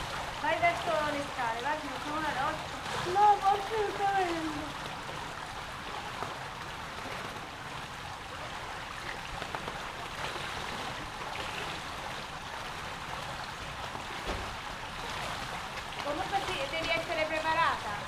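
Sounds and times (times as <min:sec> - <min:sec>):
faint splashes from swimmers: 0:00.0 - 0:18.0
pool water rushing and lapping: 0:00.0 - 0:18.0.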